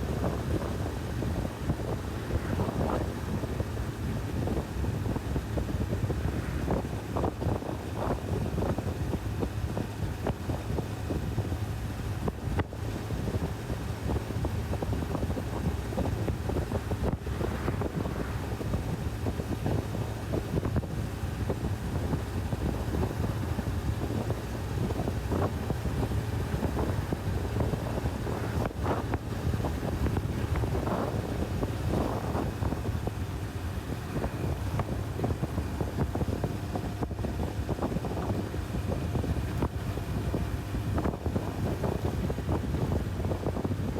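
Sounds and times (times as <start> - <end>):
motorcycle engine cruising: 0.0 - 43.9
wind rushing over microphone: 0.0 - 43.9.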